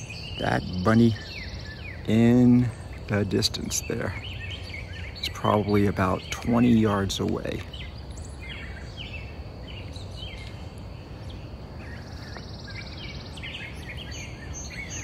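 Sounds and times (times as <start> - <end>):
low background noise: 0.0 - 15.0
songbirds chirping: 0.0 - 15.0.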